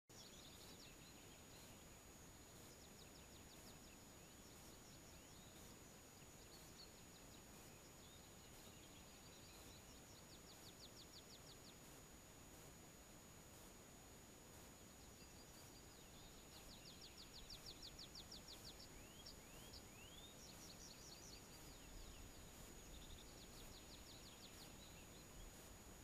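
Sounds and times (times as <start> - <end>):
distant songbirds chirping: 0.1 - 26.0
low steady hiss: 0.1 - 26.0.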